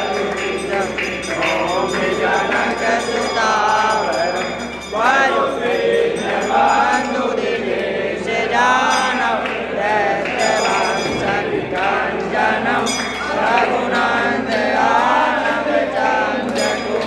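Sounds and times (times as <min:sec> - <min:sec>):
people singing a devotional hymn: 0:00.0 - 0:17.0.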